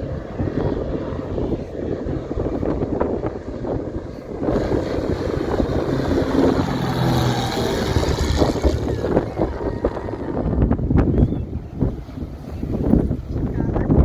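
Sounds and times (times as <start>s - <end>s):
jet airliner passing overhead: 0.0s - 14.0s
wind buffeting microphone: 0.0s - 14.0s.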